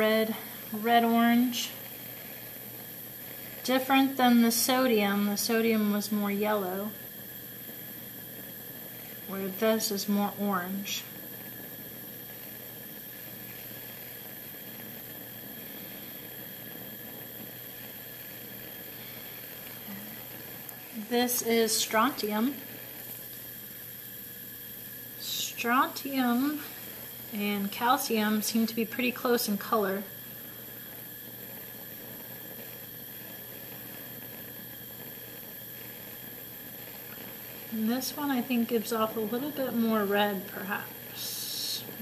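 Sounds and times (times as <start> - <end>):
bunsen burner flame hissing: 0.0 - 42.0.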